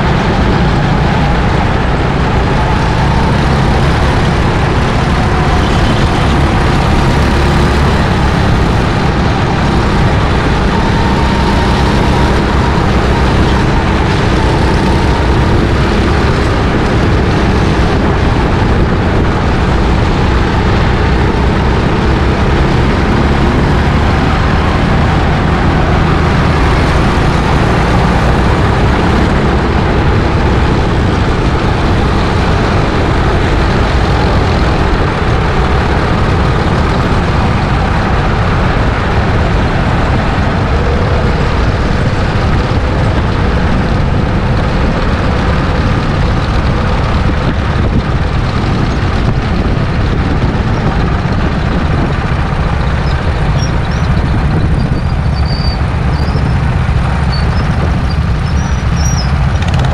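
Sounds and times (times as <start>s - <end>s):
go-kart engine: 0.0s - 59.9s
road and wind noise: 0.0s - 59.9s.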